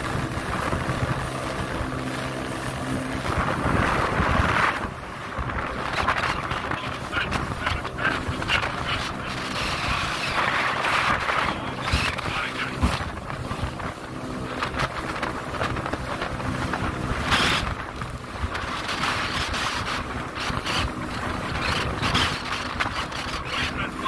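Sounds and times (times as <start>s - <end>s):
boat engine running: 0.0s - 24.0s
water rushing along hull: 0.0s - 24.0s
wind buffeting microphone: 0.0s - 24.0s.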